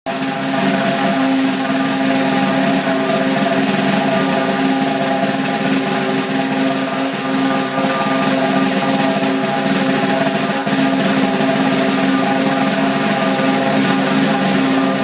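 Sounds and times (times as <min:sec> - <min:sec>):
drum roll: 0:00.1 - 0:15.0.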